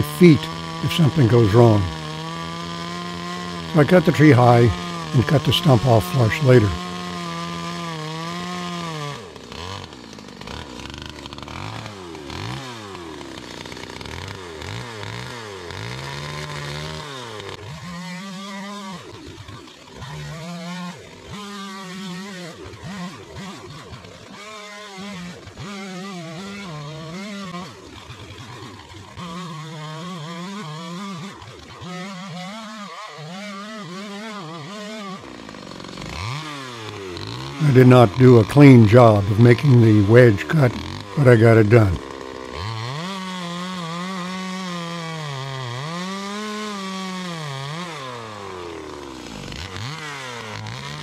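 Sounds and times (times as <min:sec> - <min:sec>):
chainsaw cutting tree: 0:00.0 - 0:51.0.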